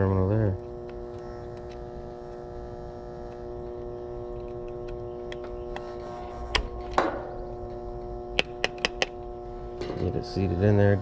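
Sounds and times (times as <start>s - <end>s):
electrical hum: 0.0s - 11.0s
wire terminal scraping: 0.0s - 11.0s.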